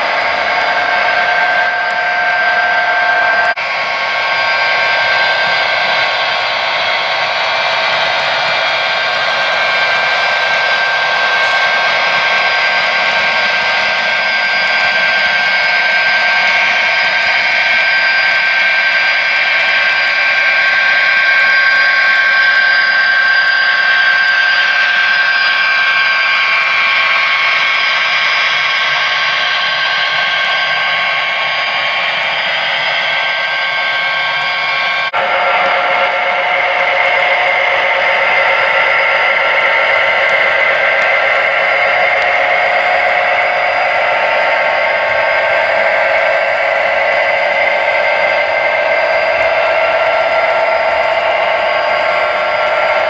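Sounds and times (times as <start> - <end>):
model train motors whirring: 0.0 - 53.0
wheels rolling on track: 0.0 - 53.0.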